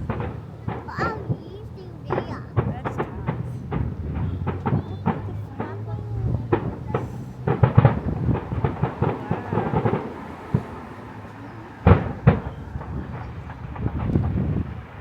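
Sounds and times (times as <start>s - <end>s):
fireworks bangs and crackles: 0.0s - 15.0s
fireworks pops: 0.0s - 15.0s
loud booming fireworks bursts: 0.0s - 15.0s.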